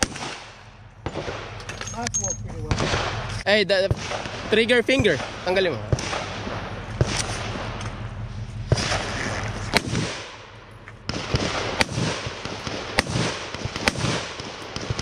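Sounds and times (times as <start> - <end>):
gunshots: 0.0 - 1.7, 2.6 - 15.0.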